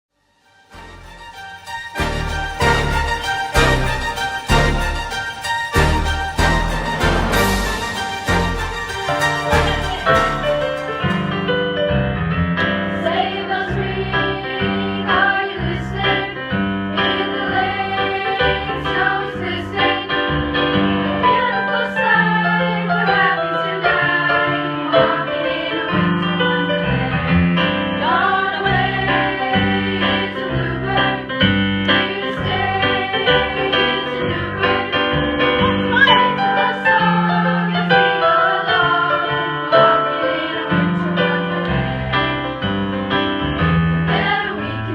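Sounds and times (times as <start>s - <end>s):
choir-like singing: 0.7s - 11.7s, 12.9s - 44.9s
piano and bass line: 0.7s - 44.9s.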